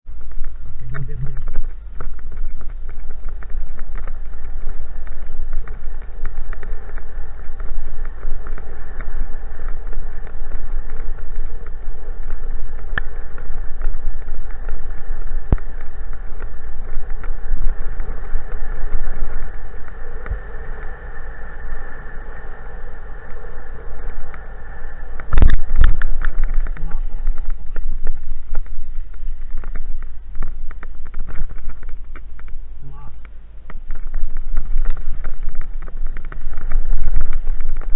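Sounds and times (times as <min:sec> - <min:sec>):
faint steady hum: 0:00.1 - 0:37.9
wind buffeting microphone: 0:00.1 - 0:37.9.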